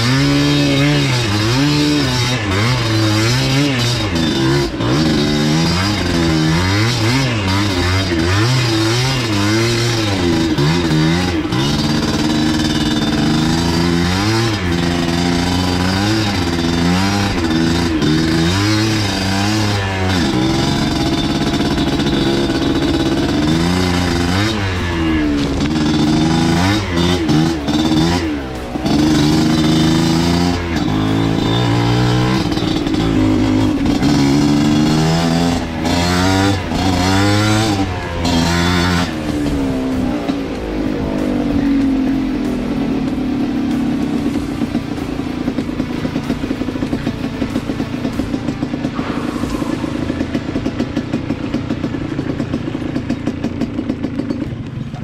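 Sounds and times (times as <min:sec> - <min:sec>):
motorcycle engine revving: 0:00.0 - 0:55.0
motorcycle knocks and clatter: 0:00.0 - 0:55.0.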